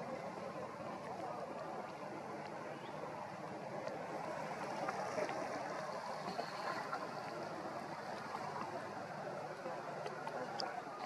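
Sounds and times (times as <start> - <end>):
faint clicks: 0.1 - 11.0.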